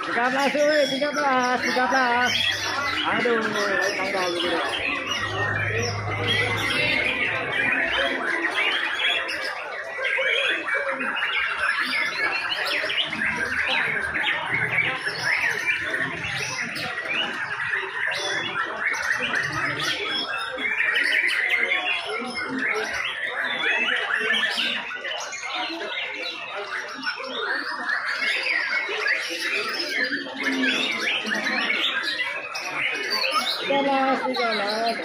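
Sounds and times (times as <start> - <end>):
birds singing in chorus: 0.0 - 35.0.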